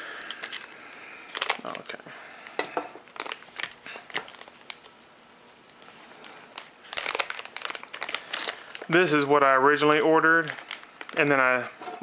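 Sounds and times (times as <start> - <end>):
plastic bag crinkling: 0.1 - 5.1, 5.7 - 11.8.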